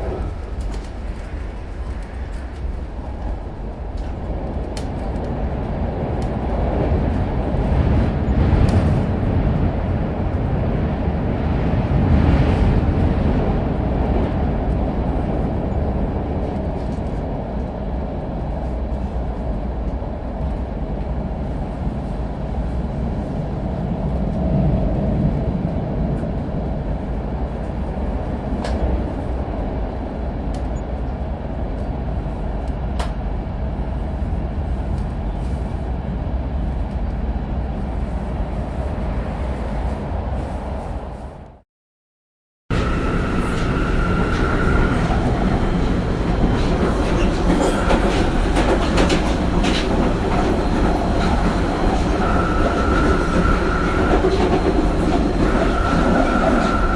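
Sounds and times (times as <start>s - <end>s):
train wheels rumbling on rails: 0.0s - 41.6s, 42.7s - 56.9s.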